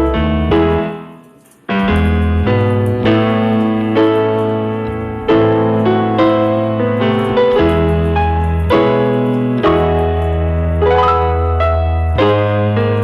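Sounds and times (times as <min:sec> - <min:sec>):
piano playing jazzy chords: 0:00.0 - 0:13.0.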